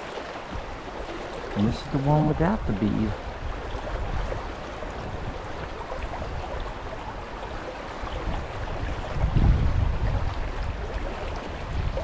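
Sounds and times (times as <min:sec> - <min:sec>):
fast river current rushing: 0:00.0 - 0:12.0.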